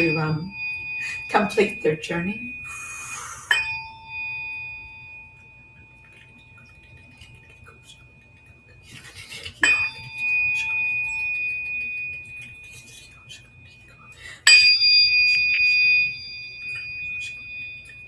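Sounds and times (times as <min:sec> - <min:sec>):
struck metal instrument ringing: 0:00.0 - 0:18.0.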